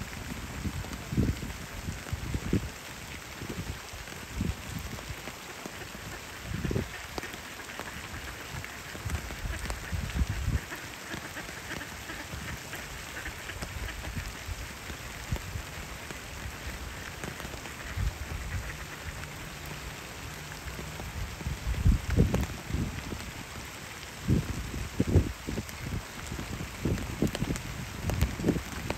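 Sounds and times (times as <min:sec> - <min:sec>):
rain falling on pond: 0:00.0 - 0:28.9.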